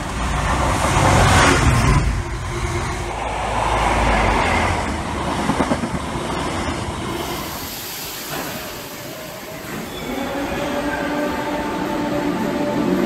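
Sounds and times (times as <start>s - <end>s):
electric train entering station: 0.0s - 13.0s
train passing close by: 0.0s - 13.0s.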